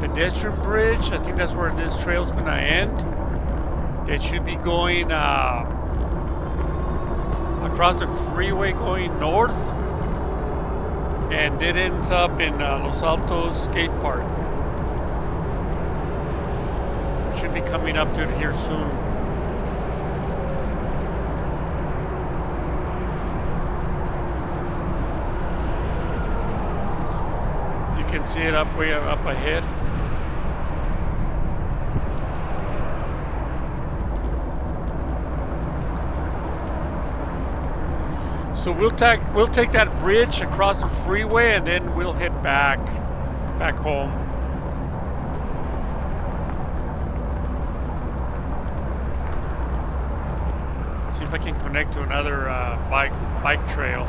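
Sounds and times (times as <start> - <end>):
faint steady whine: 0.0 - 54.0
freeway traffic: 0.0 - 54.0
wind noise: 0.0 - 54.0.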